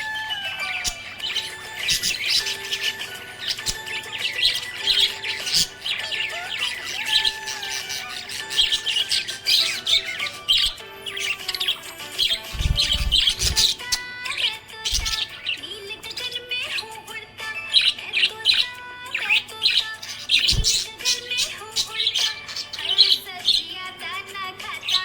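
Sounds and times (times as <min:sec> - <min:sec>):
budgerigars chirping and warbling: 0:00.0 - 0:25.0.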